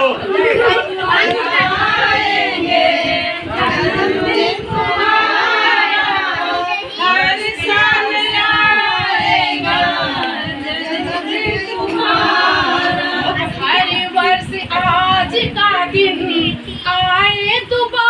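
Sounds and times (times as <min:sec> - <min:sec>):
women singing folk song: 0:00.2 - 0:18.0.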